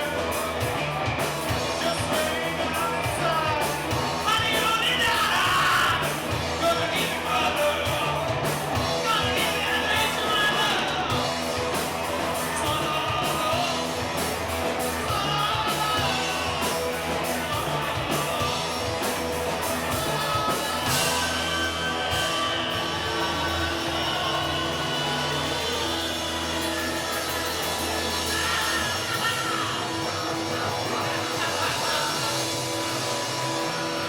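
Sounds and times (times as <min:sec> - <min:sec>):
person singing: 0:00.0 - 0:11.6, 0:14.8 - 0:34.0
live rock band playing: 0:00.0 - 0:34.0.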